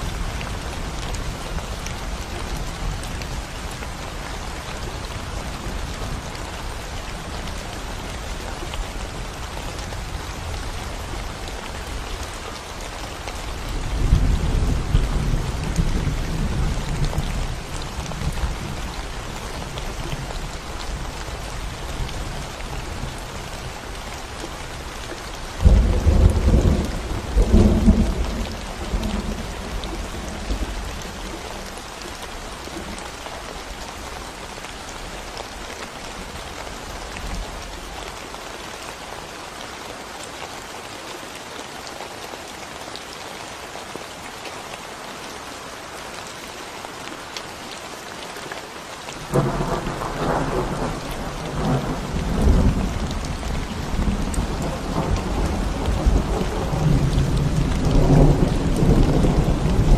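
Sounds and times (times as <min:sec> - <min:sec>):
rain on concrete road: 0:00.0 - 0:59.9.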